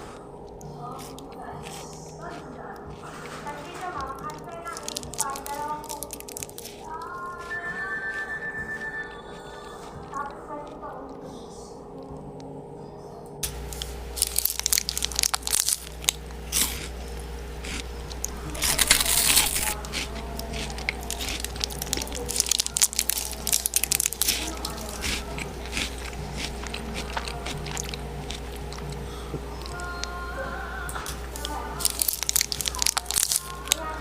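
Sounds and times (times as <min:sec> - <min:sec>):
person chewing crunchy food: 0:00.0 - 0:11.4, 0:13.4 - 0:30.4, 0:31.0 - 0:34.0
steady low hum: 0:00.0 - 0:34.0.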